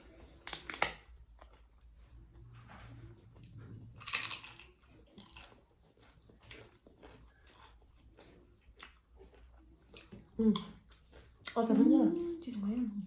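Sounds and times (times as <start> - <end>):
chewing and crunching: 0.0 - 12.8.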